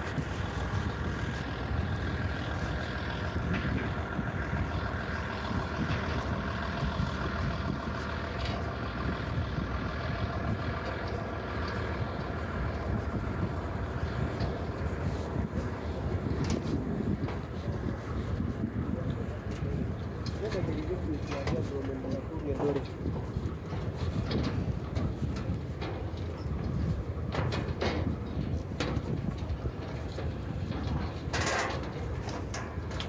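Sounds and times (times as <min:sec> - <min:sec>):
heavy engine idling: 0:00.0 - 0:33.0.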